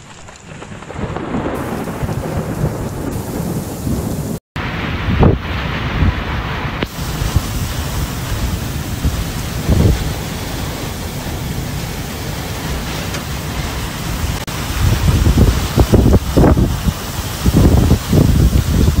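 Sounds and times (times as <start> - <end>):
heavy rain in strong wind: 0.0 - 19.0.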